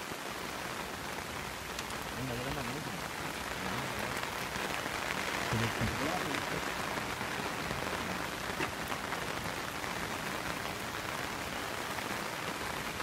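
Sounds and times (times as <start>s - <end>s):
heavy rain on water: 0.0s - 13.0s.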